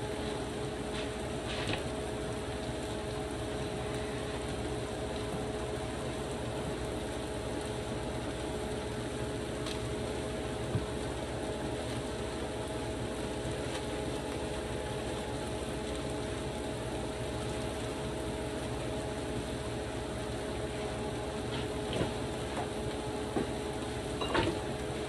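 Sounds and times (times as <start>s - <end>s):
steady motor hum: 0.0s - 25.0s.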